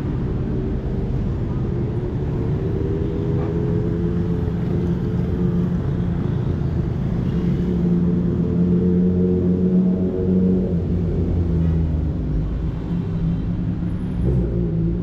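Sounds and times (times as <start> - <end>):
traffic rumble: 0.0 - 15.0
vehicle engine running nearby: 0.0 - 15.0.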